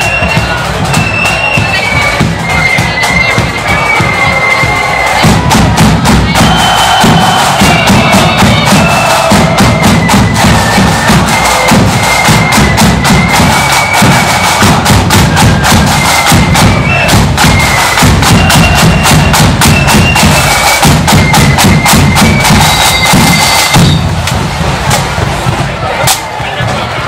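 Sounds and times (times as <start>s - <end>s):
flutes playing melody: 0.0s - 24.4s
side drum strokes: 0.0s - 26.8s
bass drum beat: 0.0s - 27.0s.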